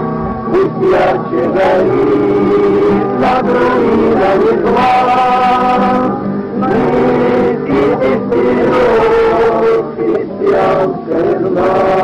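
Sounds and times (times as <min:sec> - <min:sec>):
group of people singing: 0:00.5 - 0:12.0.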